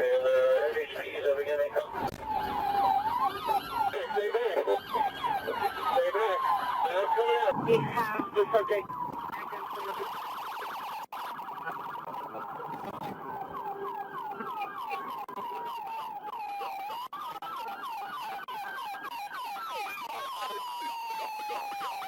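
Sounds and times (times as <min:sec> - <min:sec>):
police siren wailing: 0:02.0 - 0:22.0
police siren yelping: 0:02.0 - 0:22.0.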